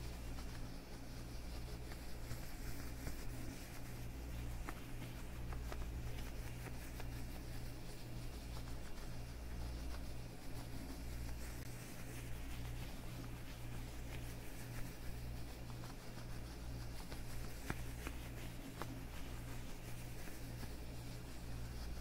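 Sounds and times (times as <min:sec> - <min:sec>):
leather gloves rubbing and creaking: 0:00.0 - 0:22.0
steady low hum: 0:00.0 - 0:22.0.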